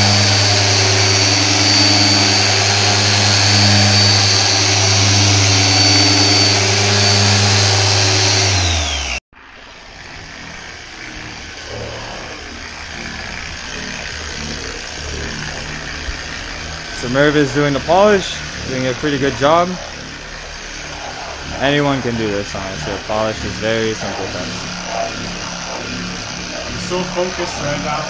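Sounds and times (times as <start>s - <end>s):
electric polisher whining: 0.0s - 28.0s.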